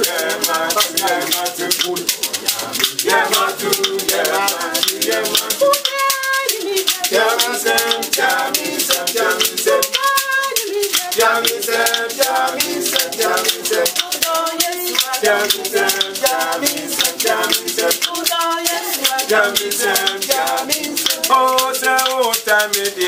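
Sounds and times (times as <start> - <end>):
group of voices singing: 0.0 - 23.0
shaken rattle beat: 0.0 - 23.0.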